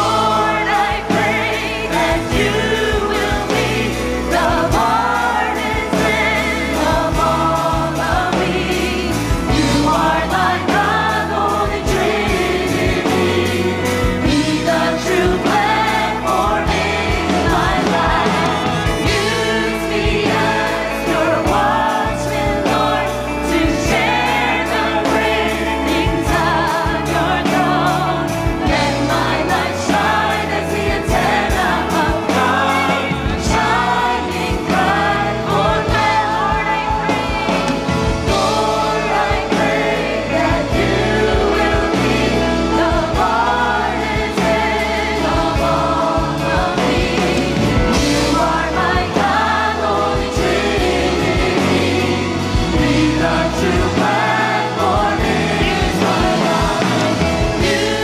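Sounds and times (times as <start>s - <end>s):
band with electric guitar: 0.0s - 58.0s
singers singing worship song: 0.0s - 58.0s.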